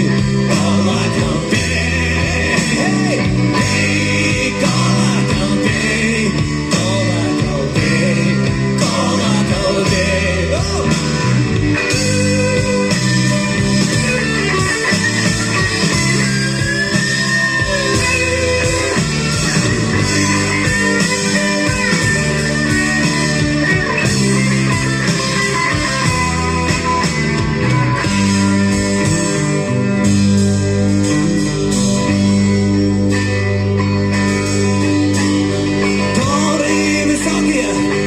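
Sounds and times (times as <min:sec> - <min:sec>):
band playing steady chords: 0:00.0 - 0:38.0
electric guitar lead with bending notes: 0:00.0 - 0:38.0.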